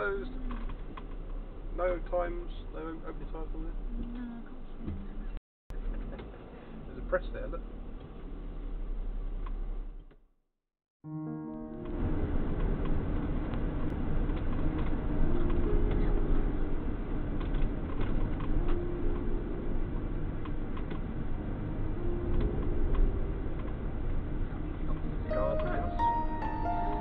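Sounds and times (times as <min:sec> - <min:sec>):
van engine and road noise: 0:00.0 - 0:10.2, 0:11.8 - 0:27.0.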